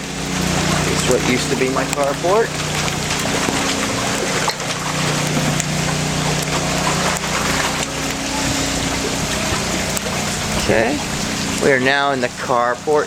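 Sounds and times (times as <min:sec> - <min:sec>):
low hum: 0:00.0 - 0:13.0
water sloshing around legs: 0:00.0 - 0:13.0.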